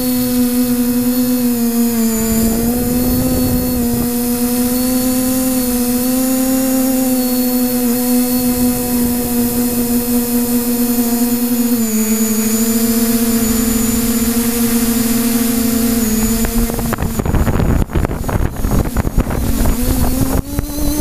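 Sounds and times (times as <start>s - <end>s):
drone motors whining: 0.0s - 21.0s
wind on microphone: 0.0s - 21.0s.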